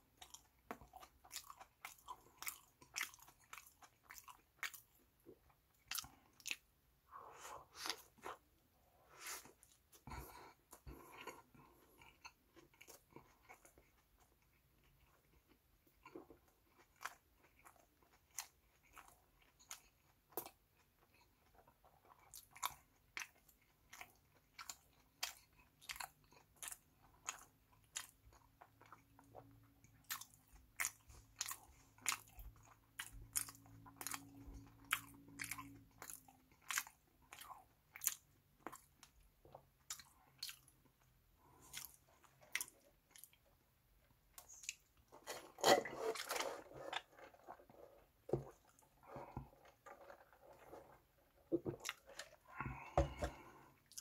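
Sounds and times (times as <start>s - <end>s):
chewing crunchy food: 0.0s - 6.8s, 9.1s - 54.0s.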